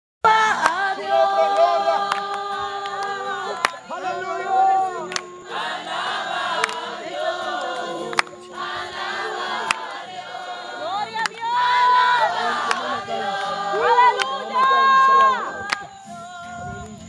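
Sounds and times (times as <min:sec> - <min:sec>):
group singing in chorus: 0:00.3 - 0:17.0.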